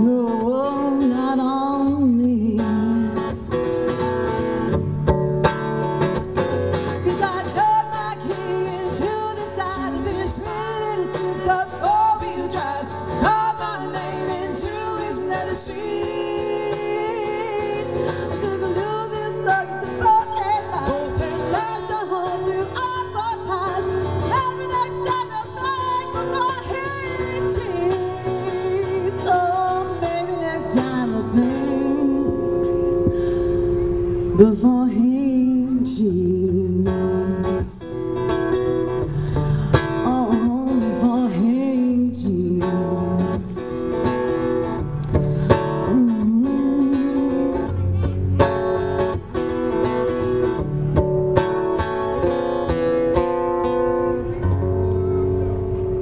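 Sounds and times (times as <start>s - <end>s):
woman singing into a microphone: 0.0s - 4.0s, 6.9s - 50.6s
strummed acoustic guitar: 0.0s - 56.0s.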